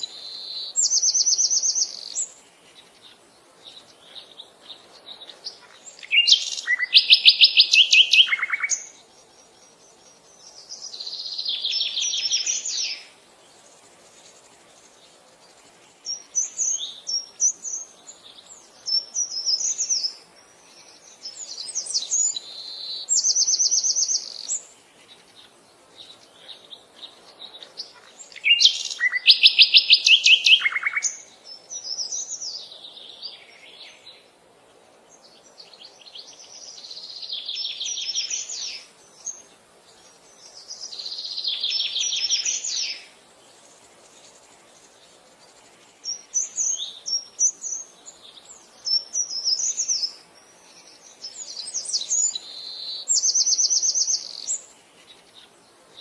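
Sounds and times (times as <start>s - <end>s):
bird song of rapid repeated notes: 0.0s - 56.0s
birds chirping and warbling: 0.0s - 56.0s.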